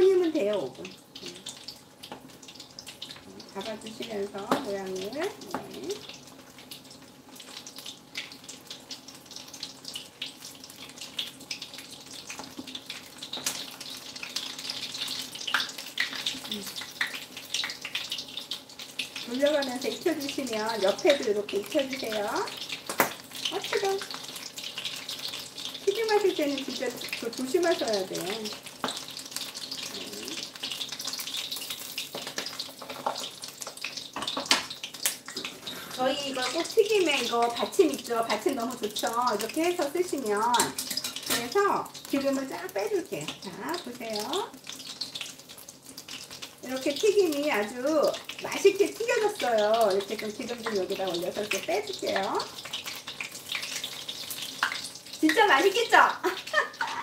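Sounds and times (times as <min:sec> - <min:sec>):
oil sizzling and popping: 0:00.0 - 0:57.0.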